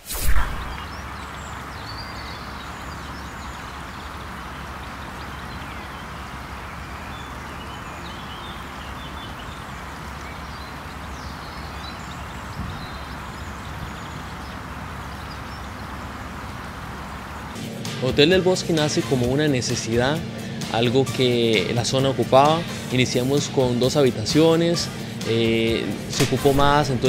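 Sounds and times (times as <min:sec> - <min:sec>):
bird chirps: 0:00.0 - 0:27.0
waterfall and stream rushing: 0:00.0 - 0:27.0.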